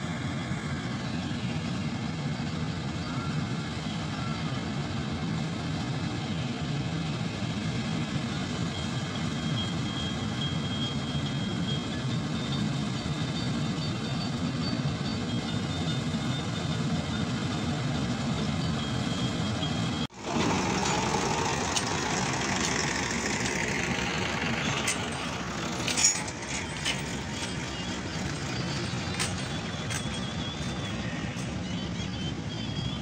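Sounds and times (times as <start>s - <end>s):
combine harvester engine drone: 0.0s - 33.0s.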